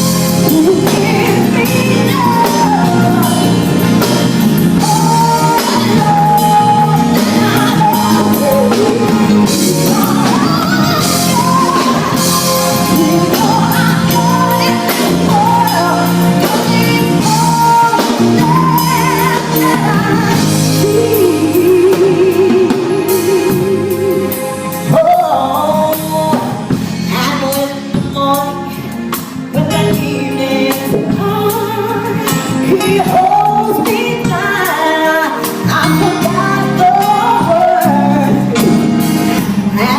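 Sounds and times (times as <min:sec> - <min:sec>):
live band playing: 0:00.0 - 0:39.9
woman singing gospel: 0:00.0 - 0:39.9.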